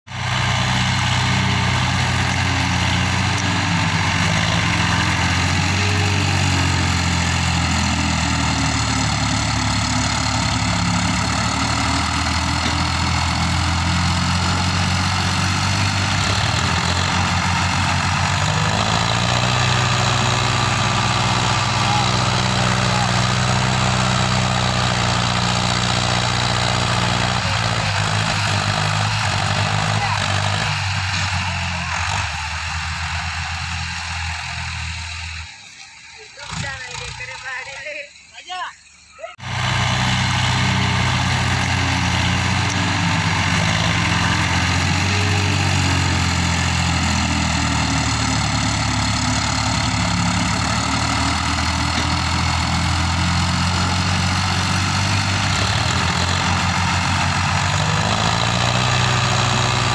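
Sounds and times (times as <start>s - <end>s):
tractor diesel engines running: 0.0s - 59.9s.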